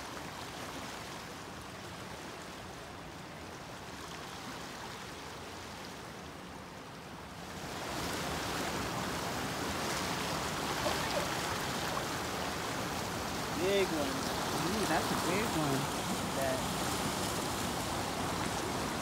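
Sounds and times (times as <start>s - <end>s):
fast-flowing stream rushing: 0.0s - 19.0s.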